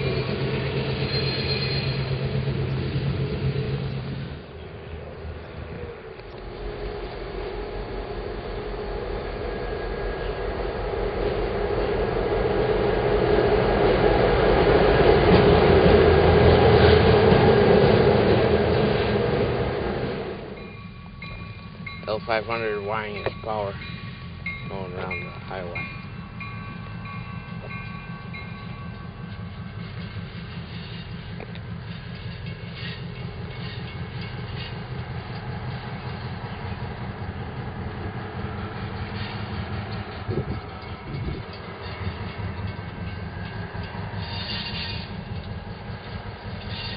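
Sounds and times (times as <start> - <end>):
freight locomotive engine drone: 0.0 - 46.9
train rolling noise: 0.0 - 46.9.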